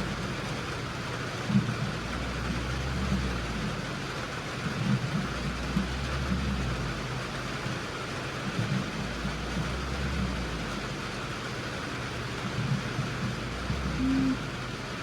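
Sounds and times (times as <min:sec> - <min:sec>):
vehicle engine running: 0:00.0 - 0:15.0
low bumps and rumbles: 0:01.4 - 0:07.7, 0:08.4 - 0:14.6.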